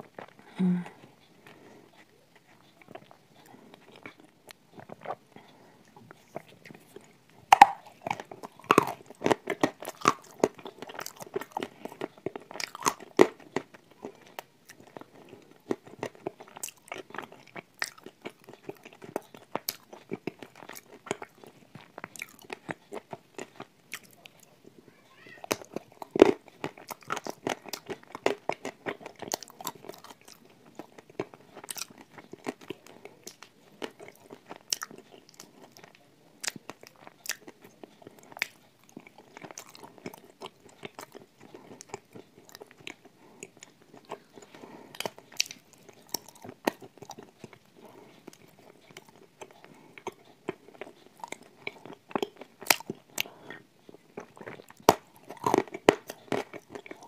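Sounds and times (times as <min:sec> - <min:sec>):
person crunching brittle snack: 0:06.2 - 0:24.6, 0:25.4 - 0:57.0.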